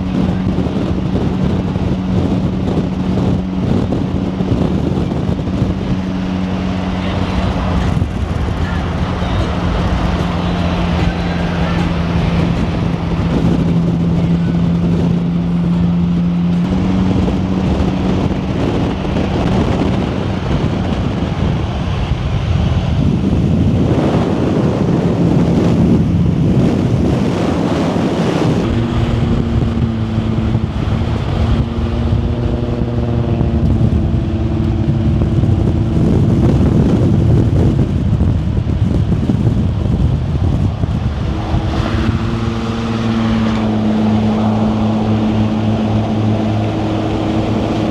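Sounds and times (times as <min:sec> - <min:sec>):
car engine droning: 0:00.0 - 0:47.9
road and wind noise: 0:00.0 - 0:47.9.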